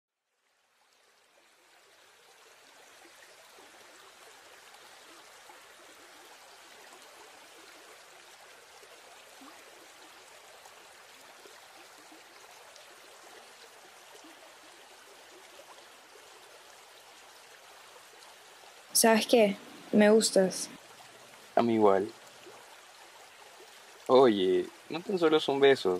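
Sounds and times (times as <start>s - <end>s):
stream babbling over rocks: 0.5s - 25.9s.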